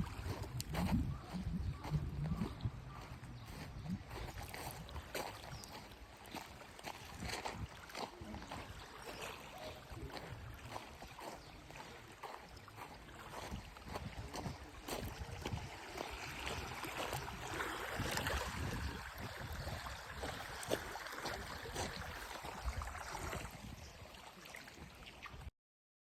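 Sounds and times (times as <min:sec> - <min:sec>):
wind rumbling on microphone: 0:00.0 - 0:11.9, 0:12.8 - 0:24.2
water splashing and lapping: 0:00.0 - 0:25.5.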